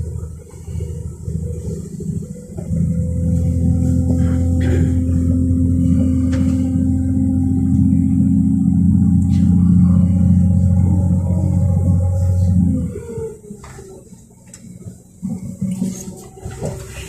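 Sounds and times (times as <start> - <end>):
train diesel engine droning: 0.0 - 17.0.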